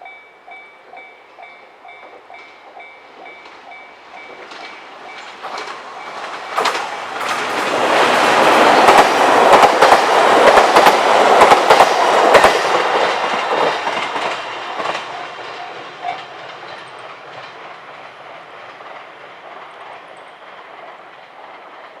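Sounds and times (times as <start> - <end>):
train wheels clacking over rail joints: 2.0 - 22.0.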